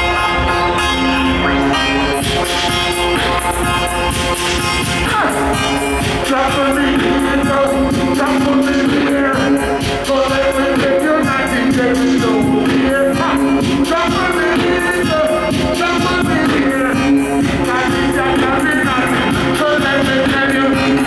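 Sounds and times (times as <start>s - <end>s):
reggae band playing: 0.0s - 21.0s
person singing: 1.2s - 21.0s.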